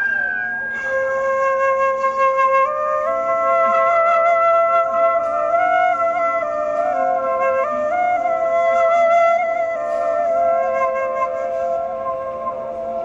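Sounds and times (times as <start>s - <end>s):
bamboo flute slow melody: 0.0s - 13.0s.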